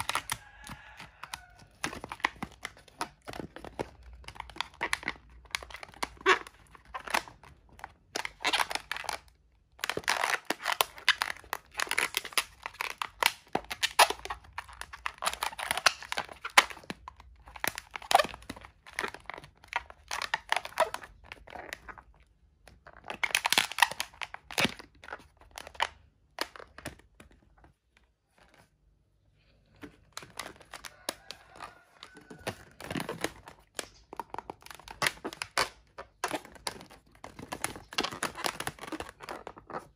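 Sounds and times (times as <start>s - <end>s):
balloons rubbing and crackling: 0.0s - 39.9s.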